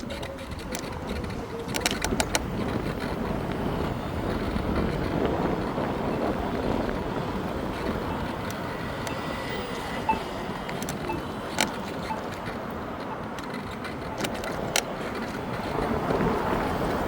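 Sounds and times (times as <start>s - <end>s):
tyre and road rumble: 0.0s - 17.0s
wind on microphone: 0.0s - 17.0s.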